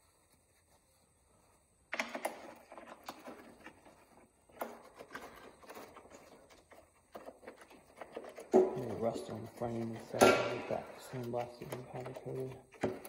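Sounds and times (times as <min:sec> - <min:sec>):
rustling: 0:00.0 - 0:13.0
handling clicks and knocks: 0:01.9 - 0:13.0.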